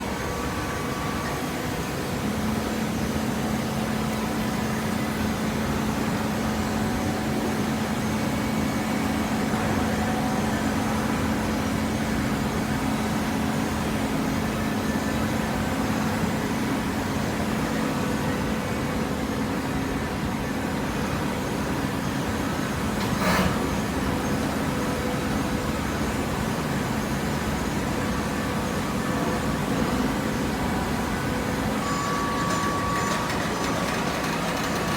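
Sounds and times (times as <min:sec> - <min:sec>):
hydraulic machine hum: 0:00.0 - 0:34.9.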